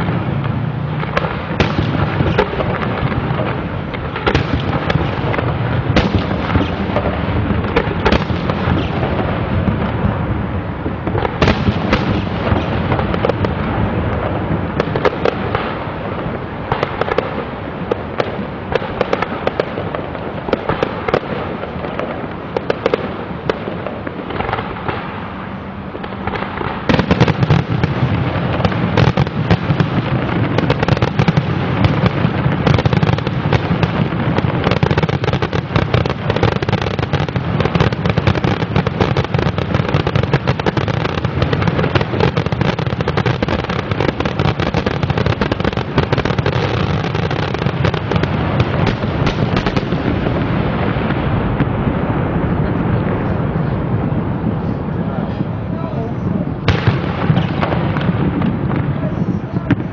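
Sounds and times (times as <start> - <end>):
fireworks bursting with crackle: 0.0 - 59.9.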